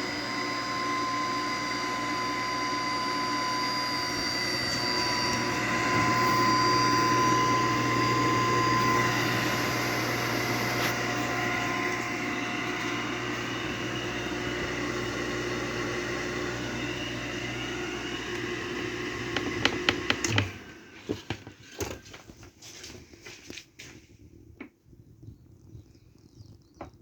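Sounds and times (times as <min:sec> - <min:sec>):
pump motor humming: 0:00.0 - 0:22.1.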